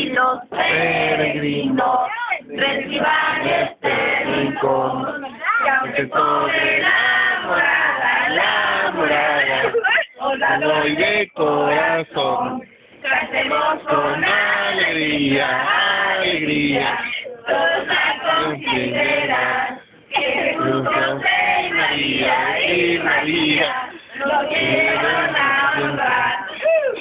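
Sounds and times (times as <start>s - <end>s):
group of people singing: 0.0s - 27.0s.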